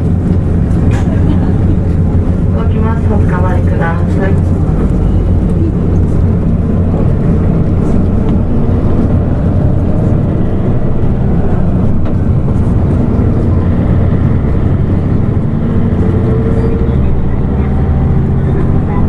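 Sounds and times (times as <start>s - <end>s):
bus diesel engine droning: 0.0s - 19.0s
road noise: 0.0s - 19.0s.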